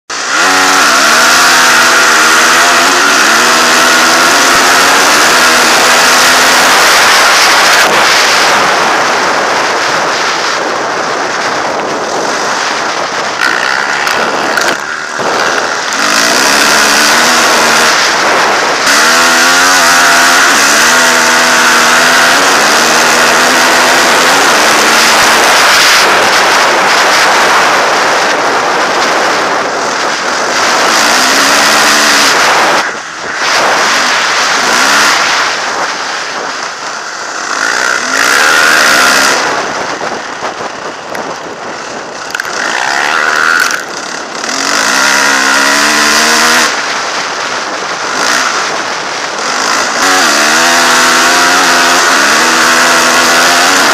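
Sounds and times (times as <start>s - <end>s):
dirt bike engine accelerating: 0.1s - 53.9s
wind noise on microphone: 0.1s - 53.9s.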